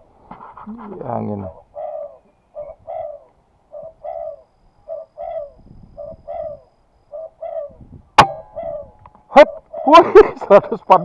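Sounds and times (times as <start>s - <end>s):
dove cooing: 0.8s - 10.2s.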